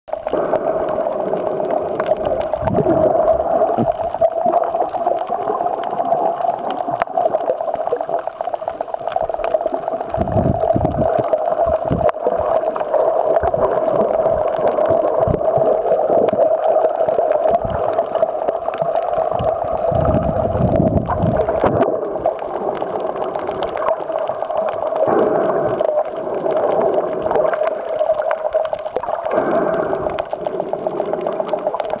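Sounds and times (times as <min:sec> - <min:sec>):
low water surges: 0:00.1 - 0:32.0
muffled underwater water gurgling: 0:00.1 - 0:32.0.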